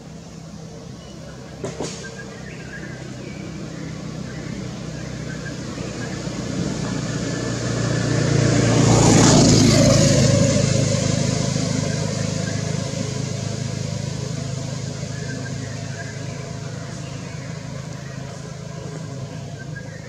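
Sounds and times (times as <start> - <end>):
low engine hum: 0.0 - 20.0
vehicle passing by: 0.0 - 20.0.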